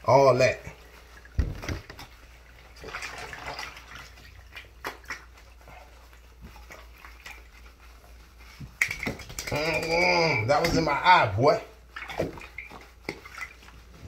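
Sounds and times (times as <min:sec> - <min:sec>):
bath water splashing: 0:00.0 - 0:14.0.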